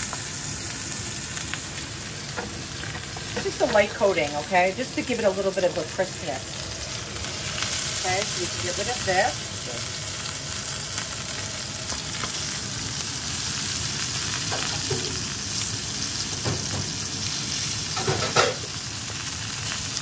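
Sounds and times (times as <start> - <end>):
crabs frying in hot oil: 0.0 - 20.0.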